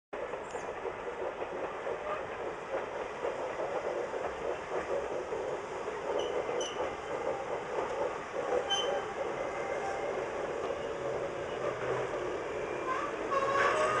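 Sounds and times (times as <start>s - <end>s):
diesel train rumbling on rails: 0.2s - 14.0s.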